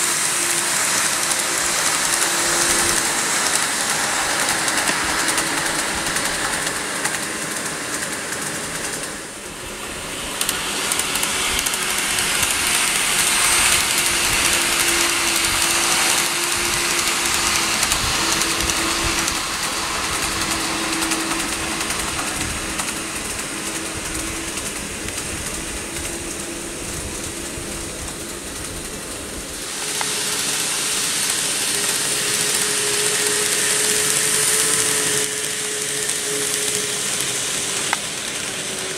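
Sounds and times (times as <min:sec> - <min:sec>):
model train motor whirring: 0:00.0 - 0:38.9
wheels rattling on rails: 0:00.0 - 0:38.9.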